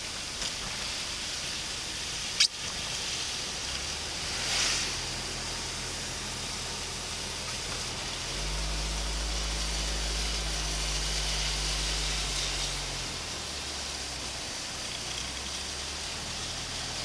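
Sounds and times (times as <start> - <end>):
moving vehicle road noise: 0.0 - 17.0.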